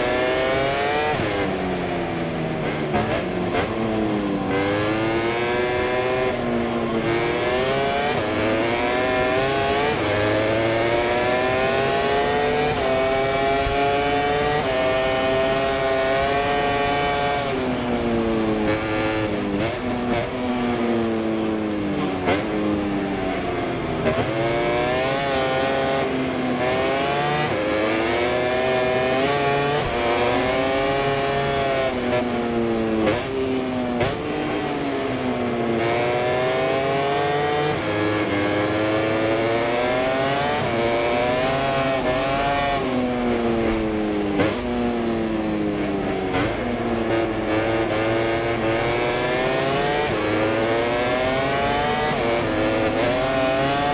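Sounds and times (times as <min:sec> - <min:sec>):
racing motorcycle engine revving: 0:00.0 - 0:53.9.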